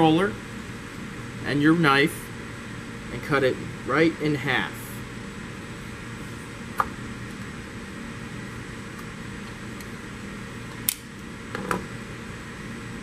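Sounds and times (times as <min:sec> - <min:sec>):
room ventilation hum: 0:00.0 - 0:13.0.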